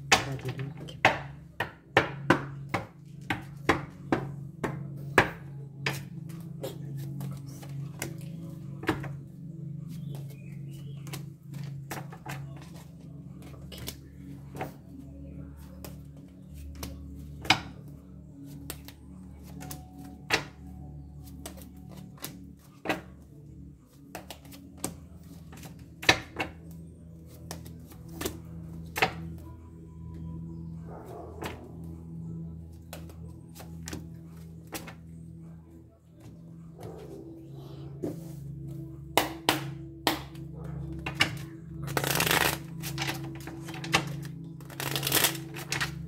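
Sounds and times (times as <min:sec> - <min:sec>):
steady low drone: 0:00.0 - 0:46.0.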